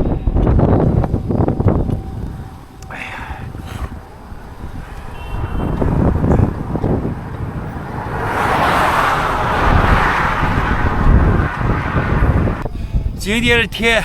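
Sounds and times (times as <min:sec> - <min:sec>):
vehicle tyres on road: 0:00.0 - 0:14.0
wind buffeting microphone: 0:00.0 - 0:14.0.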